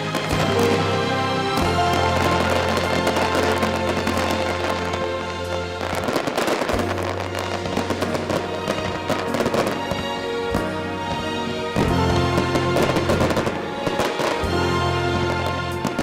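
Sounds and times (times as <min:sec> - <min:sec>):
fireworks crackling and bursting: 0:00.0 - 0:16.0
music with sustained notes: 0:00.0 - 0:16.0
sharp fireworks bangs: 0:00.0 - 0:16.0.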